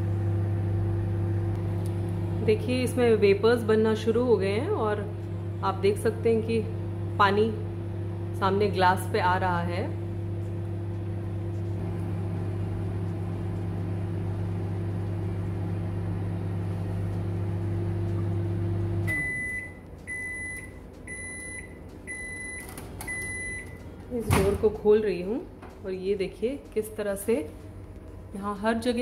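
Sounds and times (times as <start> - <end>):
microwave oven humming: 0.0 - 29.0.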